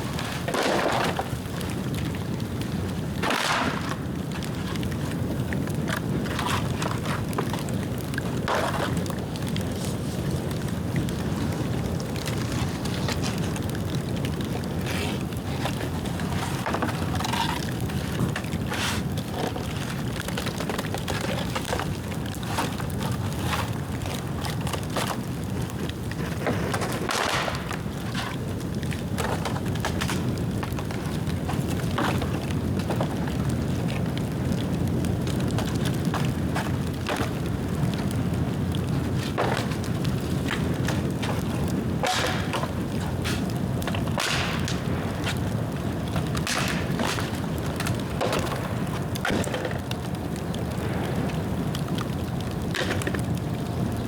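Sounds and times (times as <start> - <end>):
bamboo bonfire crackling: 0.0 - 54.0.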